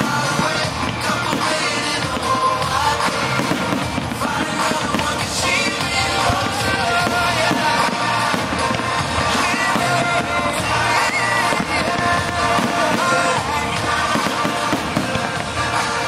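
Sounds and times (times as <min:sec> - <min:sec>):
fireworks bangs: 0:00.0 - 0:16.0
pop-rock song with singing: 0:00.0 - 0:16.0.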